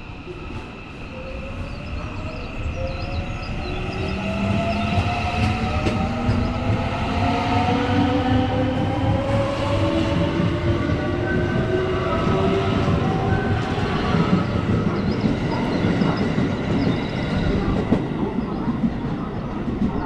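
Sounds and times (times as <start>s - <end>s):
wheels rumbling on rail: 1.6s - 20.0s.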